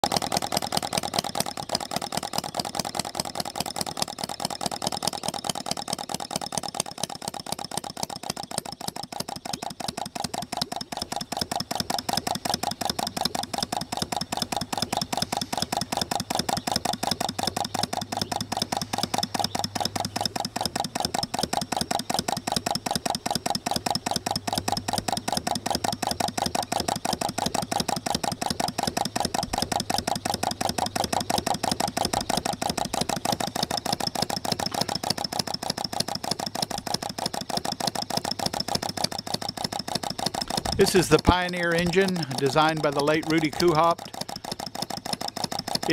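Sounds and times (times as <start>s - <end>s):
model engine running: 0.0s - 45.9s.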